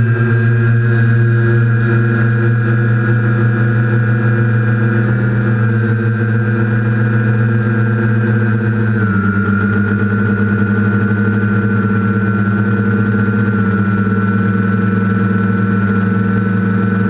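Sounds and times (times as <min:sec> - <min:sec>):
quadcopter motors humming: 0:00.0 - 0:17.0.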